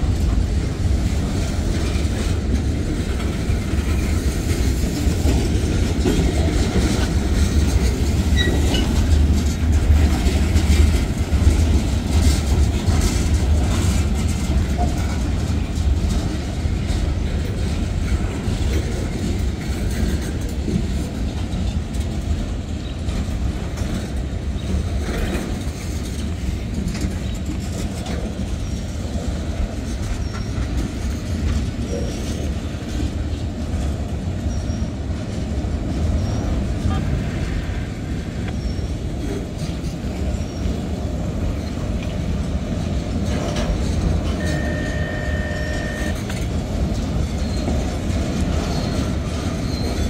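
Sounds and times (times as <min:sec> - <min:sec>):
freight cars rumbling on rails: 0:00.0 - 0:50.0
wheels clicking over rail joints: 0:00.0 - 0:50.0.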